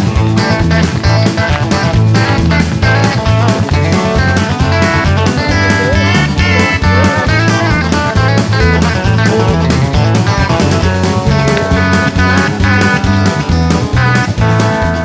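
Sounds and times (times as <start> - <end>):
guitar-led music with drums: 0.0 - 15.0.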